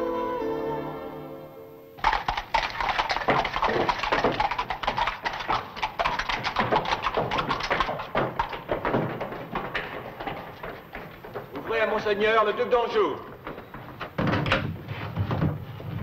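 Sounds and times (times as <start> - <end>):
horse hooves clattering on stone: 2.0 - 16.0.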